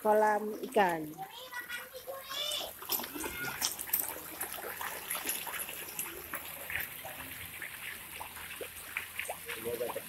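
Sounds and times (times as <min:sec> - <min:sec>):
fish splashing and slurping: 0:00.0 - 0:10.0.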